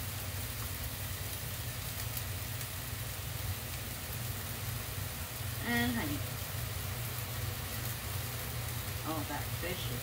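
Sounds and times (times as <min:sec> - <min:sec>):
fish sizzling in a pan: 0:00.0 - 0:10.0
steady low hum: 0:00.0 - 0:10.0.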